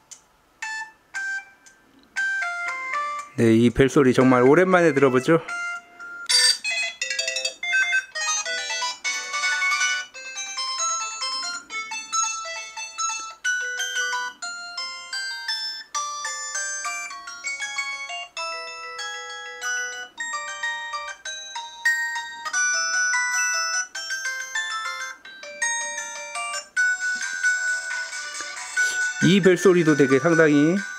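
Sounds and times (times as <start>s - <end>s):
phone ringtone melody: 0.6s - 30.9s.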